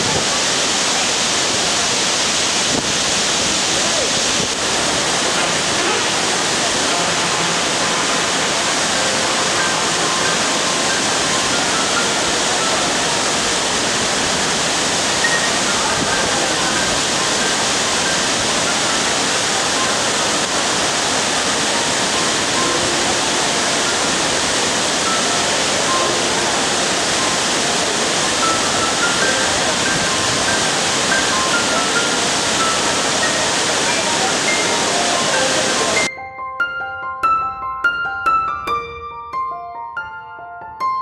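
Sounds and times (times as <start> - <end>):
waterfall crashing: 0.0 - 36.1.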